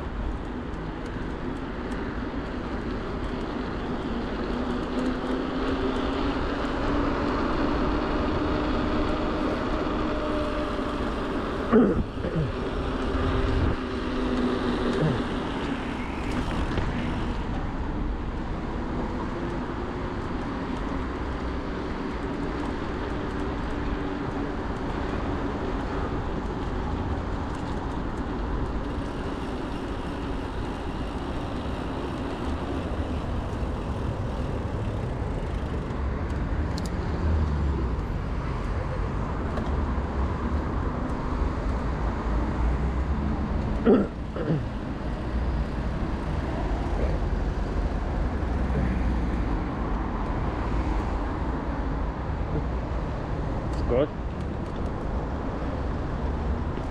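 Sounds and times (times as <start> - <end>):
city road traffic rumble: 0.0 - 56.9.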